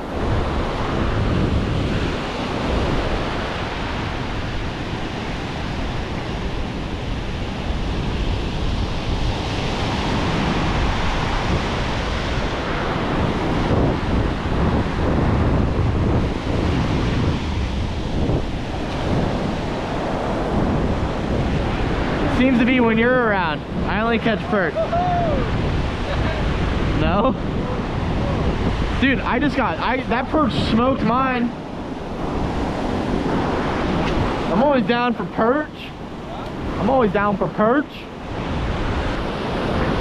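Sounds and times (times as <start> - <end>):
surf breaking on beach: 0.0 - 40.0
wind rumbling on microphone: 0.0 - 40.0.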